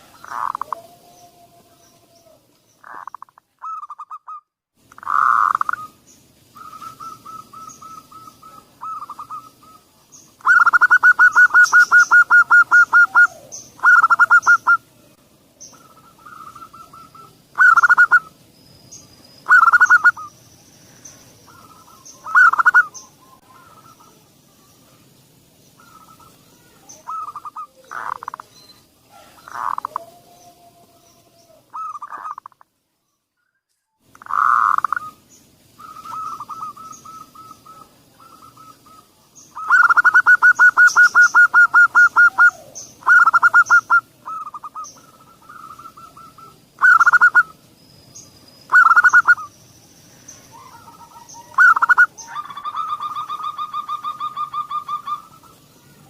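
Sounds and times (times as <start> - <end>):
dove cooing: 0.0 - 6.0, 6.6 - 14.9, 15.7 - 18.3, 19.4 - 20.3, 21.5 - 24.6, 25.8 - 28.5, 29.1 - 32.6, 34.2 - 47.6, 48.7 - 49.5, 50.5 - 56.0.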